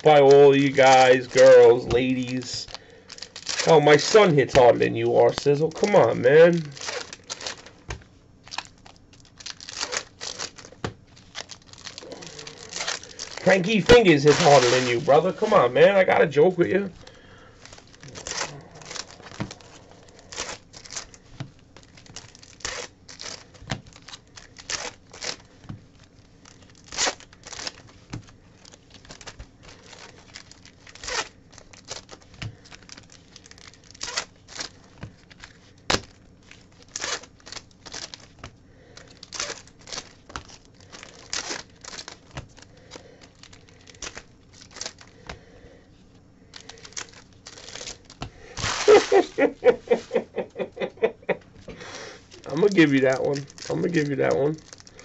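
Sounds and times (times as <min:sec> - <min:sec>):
foil packs ripping: 0:00.0 - 0:45.6, 0:46.5 - 0:51.1, 0:51.7 - 0:55.0
wrappers crinkling: 0:00.0 - 0:55.0.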